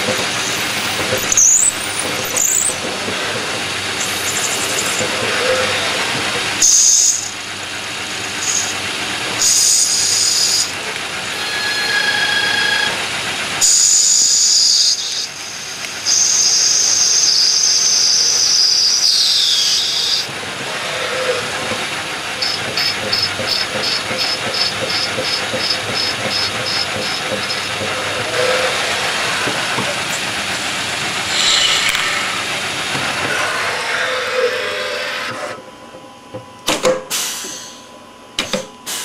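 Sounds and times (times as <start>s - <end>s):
high-pitched cutting tool whine: 0.0s - 7.5s, 8.1s - 35.7s.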